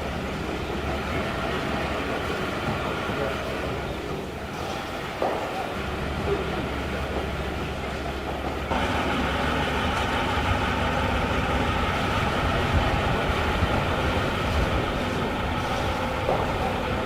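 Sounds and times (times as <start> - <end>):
steady rumbling background noise: 0.0 - 17.0.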